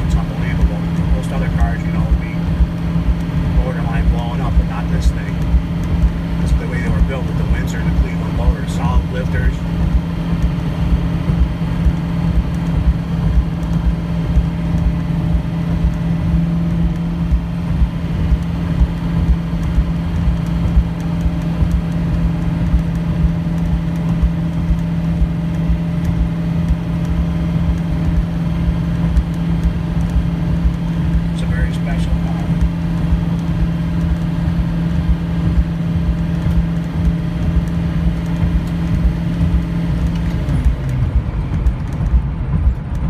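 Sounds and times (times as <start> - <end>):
car engine droning: 0.0 - 43.0
road noise: 0.0 - 43.0.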